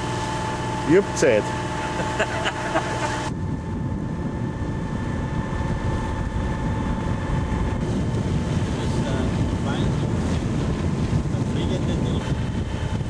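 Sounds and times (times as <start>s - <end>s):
steady hum and hiss: 0.0s - 13.0s
wind buffeting microphone: 0.0s - 13.0s.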